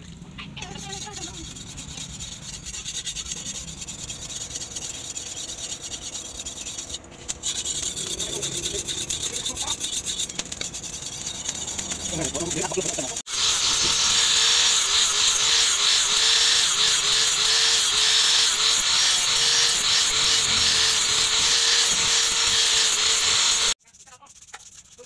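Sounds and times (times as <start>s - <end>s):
angle grinder grinding steel: 0.6s - 24.6s.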